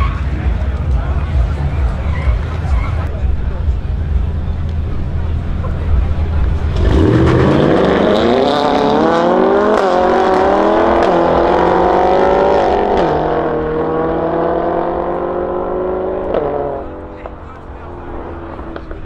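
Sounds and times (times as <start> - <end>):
car engines revving in drag race: 0.0 - 19.0.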